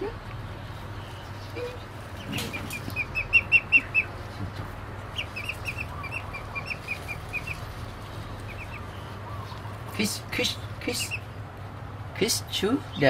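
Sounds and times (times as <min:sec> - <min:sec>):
duckling peeping: 0:00.9 - 0:11.4.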